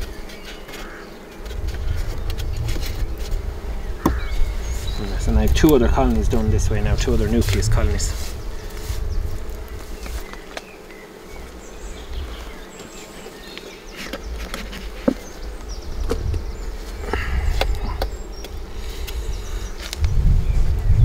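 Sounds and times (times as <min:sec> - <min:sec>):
bee smoker puffs: 0:00.0 - 0:21.0
honeybees buzzing: 0:00.0 - 0:21.0.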